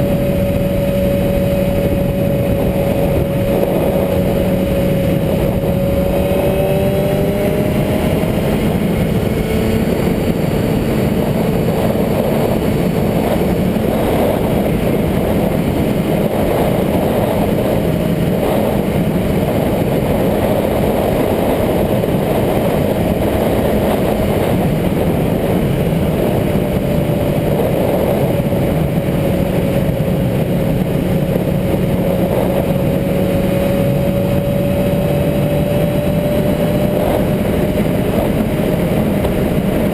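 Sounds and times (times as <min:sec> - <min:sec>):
constant rushing noise: 0:00.0 - 0:39.9
motorcycle engine running: 0:00.0 - 0:39.9.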